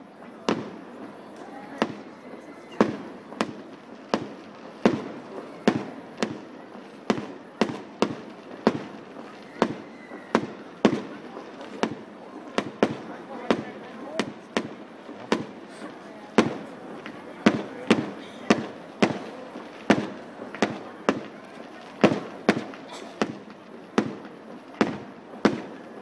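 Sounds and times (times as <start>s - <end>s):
firework bursts: 0.1s - 26.0s.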